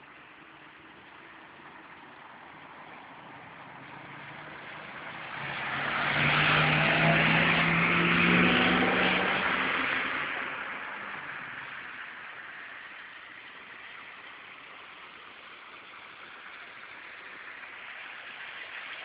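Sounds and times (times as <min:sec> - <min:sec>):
tyres hissing through water: 0:00.0 - 0:19.0.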